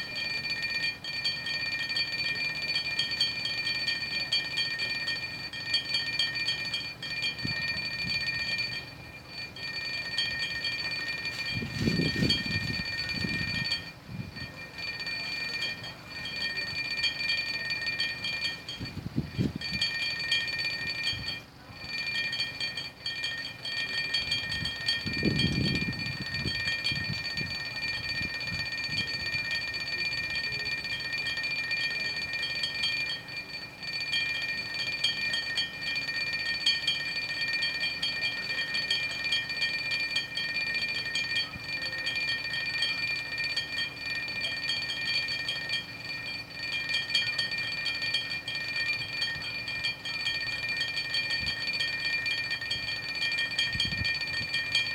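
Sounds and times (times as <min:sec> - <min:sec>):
glasses rattling and clinking: 0:00.0 - 0:54.9.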